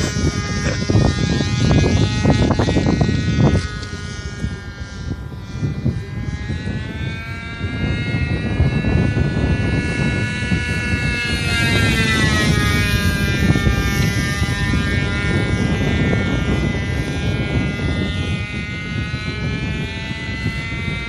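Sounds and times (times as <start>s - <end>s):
model airplane engine droning: 0.0s - 21.0s
wind rumble on microphone: 0.0s - 21.0s.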